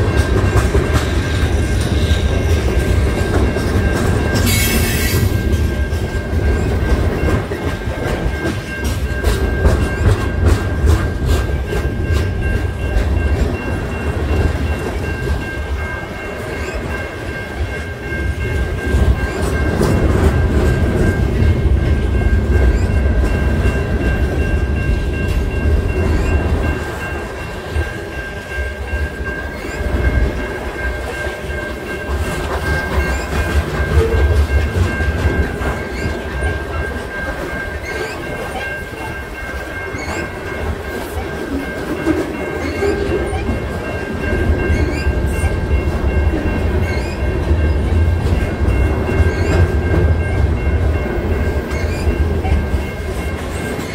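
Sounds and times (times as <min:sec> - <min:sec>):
freight train rumble: 0:00.0 - 0:53.9
wheels clicking over rail joints: 0:00.0 - 0:53.9.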